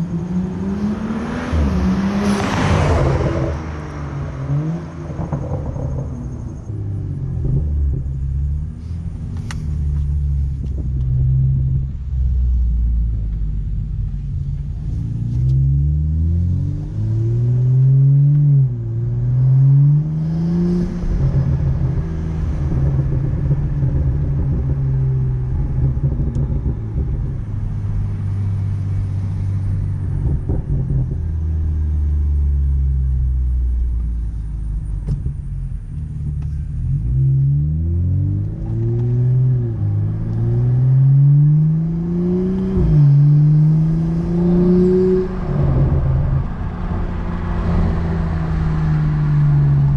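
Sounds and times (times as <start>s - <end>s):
car exhaust drone: 0.0s - 49.9s.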